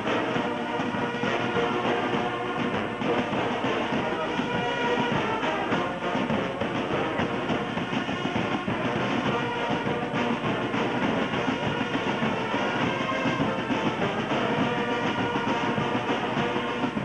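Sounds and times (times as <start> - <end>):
music: 0.0 - 17.0.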